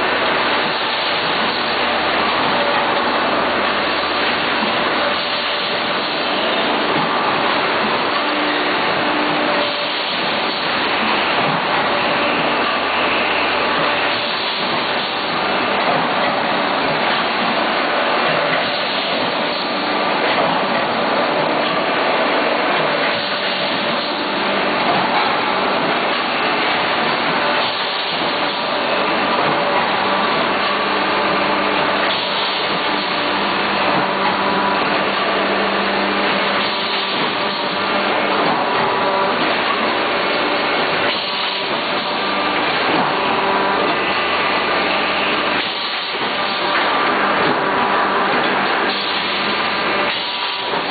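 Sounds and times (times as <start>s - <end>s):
machine running: 0.0s - 50.9s.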